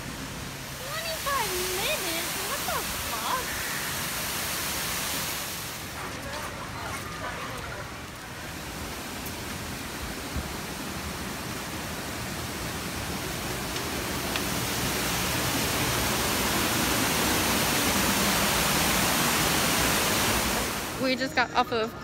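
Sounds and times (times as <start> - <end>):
waterfall rushing: 0.0 - 21.5.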